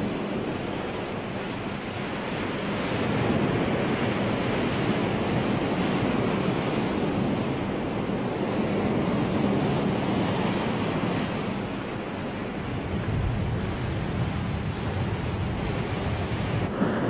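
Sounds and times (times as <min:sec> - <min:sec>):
sea rushing: 0:00.0 - 0:17.0
wind: 0:00.0 - 0:17.0.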